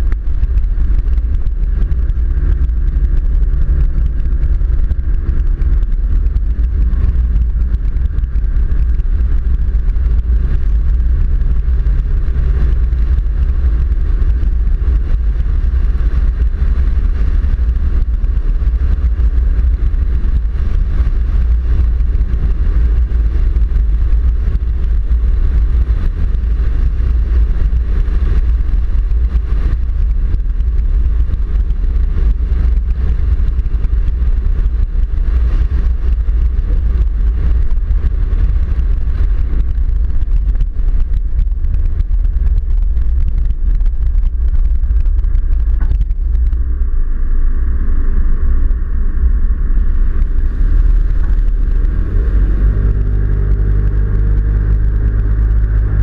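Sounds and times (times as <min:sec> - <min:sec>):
engine drone: 0:00.0 - 0:56.0
tyres rumbling on gravel: 0:00.0 - 0:56.0
wind on camera: 0:00.0 - 0:56.0.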